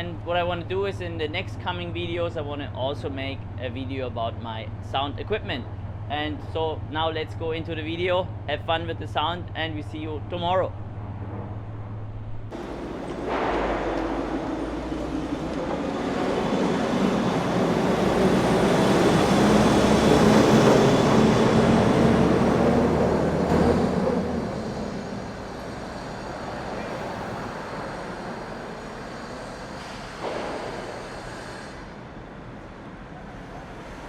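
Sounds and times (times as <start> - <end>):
heavy vehicle engine hum: 0.0 - 34.0
road traffic rumble: 0.0 - 34.0.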